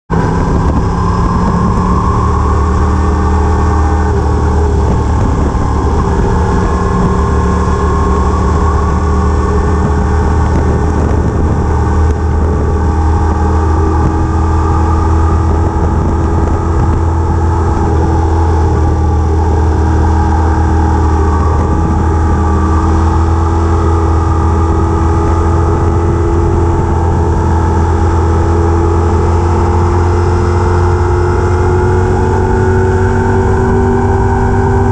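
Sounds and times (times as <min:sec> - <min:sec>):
vehicle engine droning: 0:00.0 - 0:34.9.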